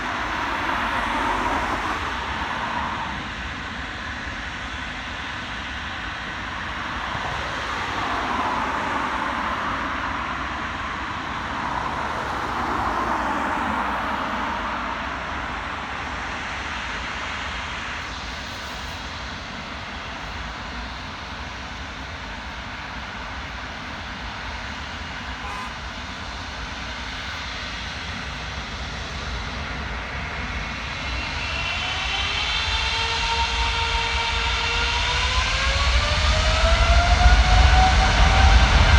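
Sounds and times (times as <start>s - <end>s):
high engine whine: 0.0s - 38.9s
jet engines rushing: 0.0s - 38.9s.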